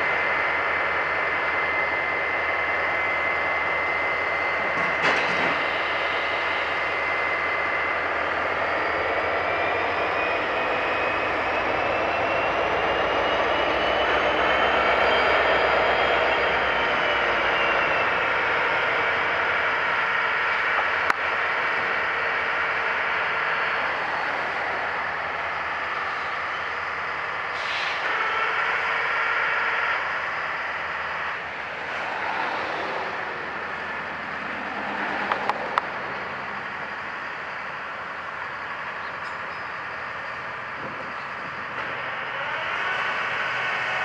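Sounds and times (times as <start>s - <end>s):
heavy rail equipment engines whining: 0.0s - 44.0s.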